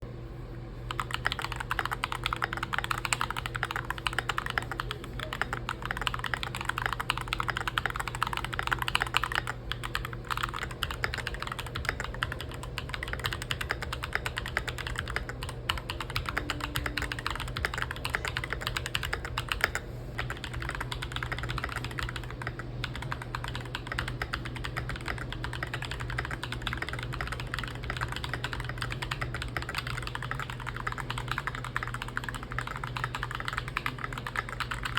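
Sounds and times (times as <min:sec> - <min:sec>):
mechanical keyboard typing: 0:00.9 - 0:34.9.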